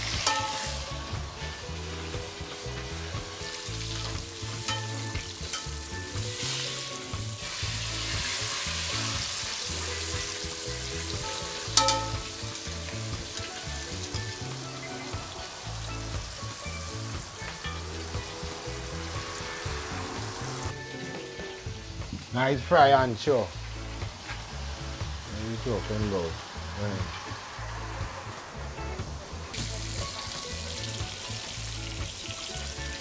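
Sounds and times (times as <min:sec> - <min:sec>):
hot oil sizzling in a pot: 0:00.0 - 0:33.0.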